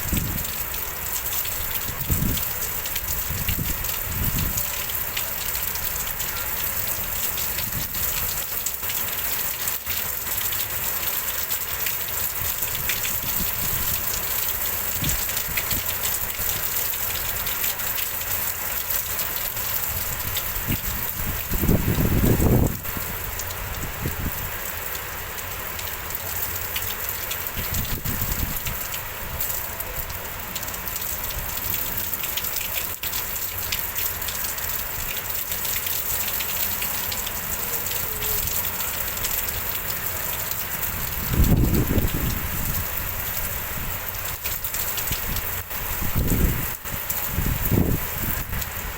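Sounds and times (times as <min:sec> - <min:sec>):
heavy rain in wind: 0:00.0 - 0:48.9.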